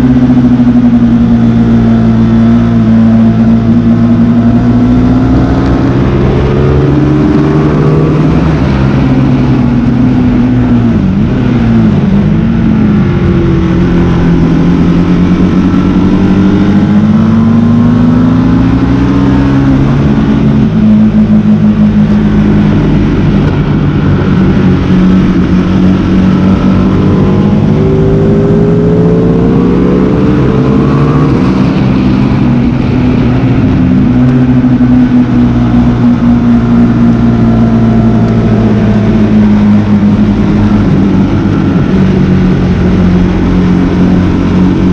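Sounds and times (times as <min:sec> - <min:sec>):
motorcycle engine accelerating: 0:00.0 - 0:44.9
steady rush of noise: 0:00.0 - 0:44.9.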